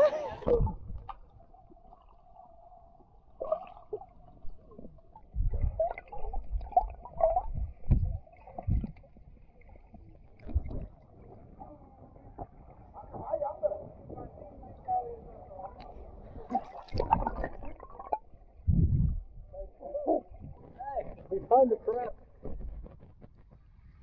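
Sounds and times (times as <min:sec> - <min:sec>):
muffled underwater sloshing: 0:00.0 - 0:24.0.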